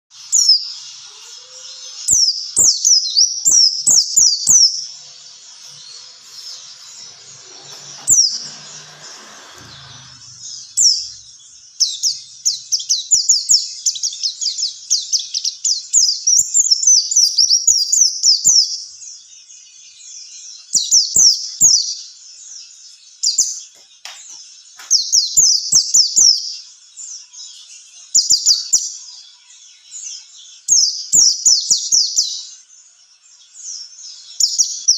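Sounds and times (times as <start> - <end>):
bird chirping song: 0.1 - 34.9.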